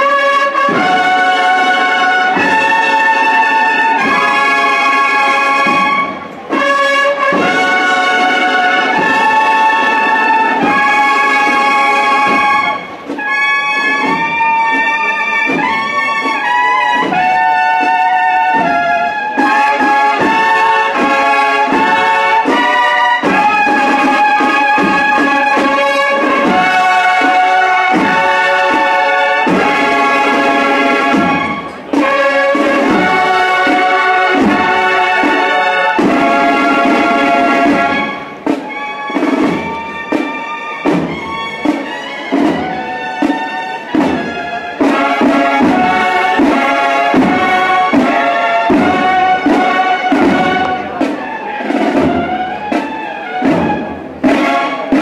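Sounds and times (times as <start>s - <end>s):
brass band playing a march: 0.0s - 55.0s.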